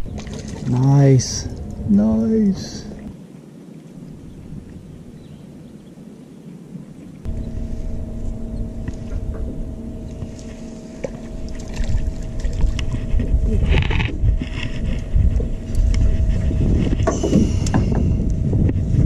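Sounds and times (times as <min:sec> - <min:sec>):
steady low hum: 0:00.0 - 0:06.1, 0:06.8 - 0:19.0
wind rumbling on microphone: 0:00.0 - 0:19.0.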